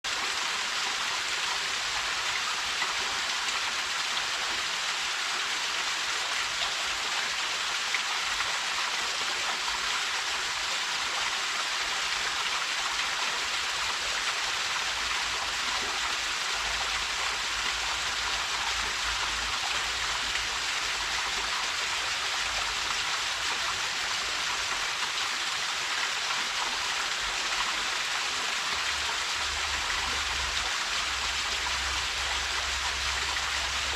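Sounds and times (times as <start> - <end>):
waterfall pouring into stream: 0.1 - 33.9.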